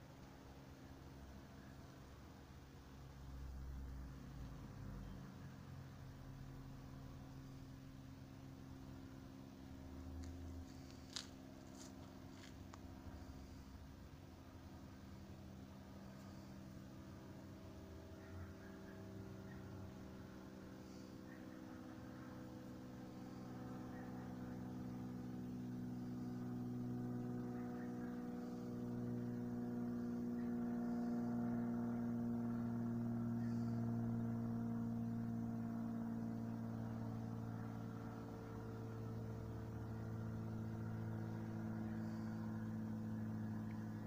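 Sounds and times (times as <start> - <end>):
distant engine drone: 0.0 - 44.0.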